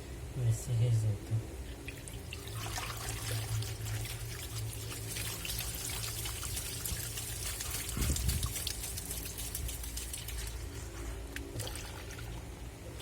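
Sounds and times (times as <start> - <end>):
water sloshing in washing machine: 1.6 - 13.0.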